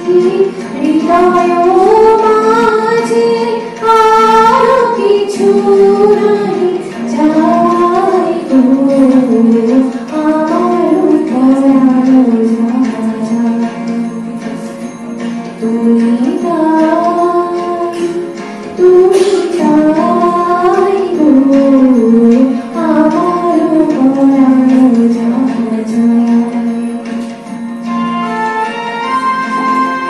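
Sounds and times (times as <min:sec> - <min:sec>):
woman singing: 0:00.0 - 0:14.2, 0:15.5 - 0:27.2.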